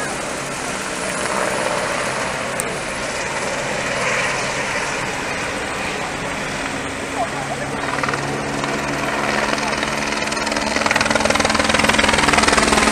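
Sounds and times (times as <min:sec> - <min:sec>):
helicopter rotor and engine drone: 0:00.0 - 0:12.9.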